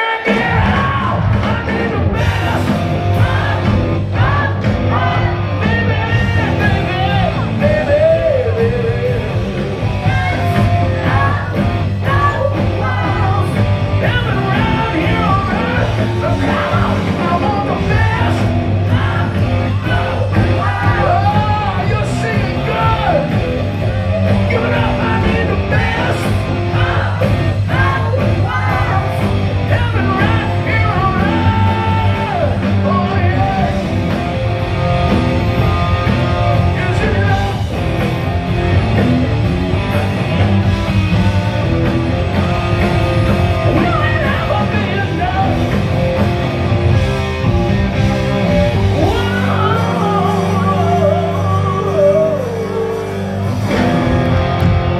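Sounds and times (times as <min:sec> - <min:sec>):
lead vocals: 0:00.0 - 0:54.9
live rock band playing: 0:00.0 - 0:54.9.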